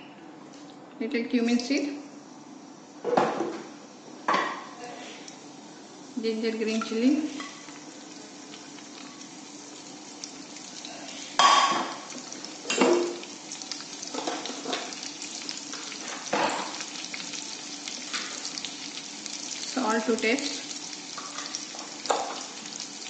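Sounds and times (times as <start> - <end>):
spices sizzling in hot oil: 4.3 - 23.0.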